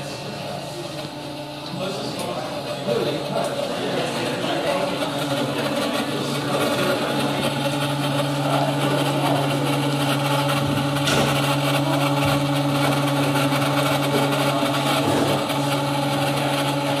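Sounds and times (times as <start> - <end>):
milling machine humming: 0.0 - 17.0.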